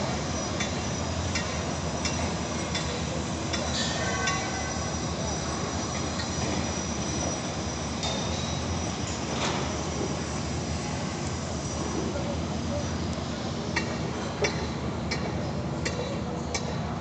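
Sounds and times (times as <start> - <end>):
construction low rumble: 0.0 - 17.0.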